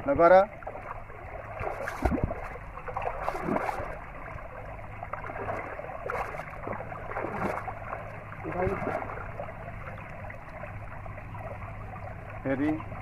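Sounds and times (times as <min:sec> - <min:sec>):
water splashing from wading: 0:00.2 - 0:13.0.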